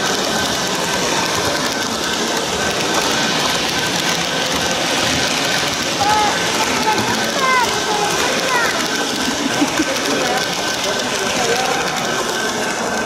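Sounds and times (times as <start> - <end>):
model train wheels rattling: 0.0 - 13.0.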